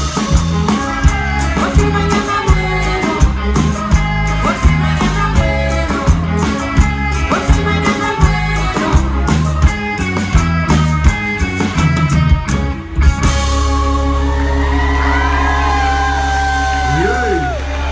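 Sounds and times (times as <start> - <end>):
steady drum beat: 0.0 - 17.5
live band playing: 0.0 - 17.9.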